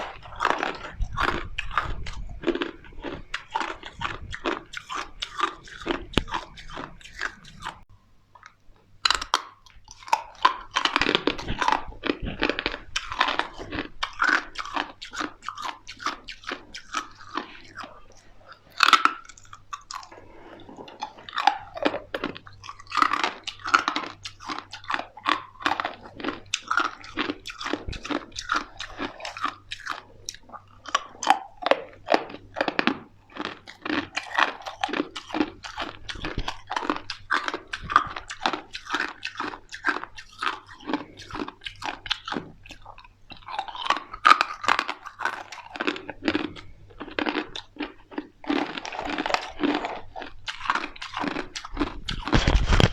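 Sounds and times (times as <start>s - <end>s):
crunching and chewing ice: 0.0s - 52.9s.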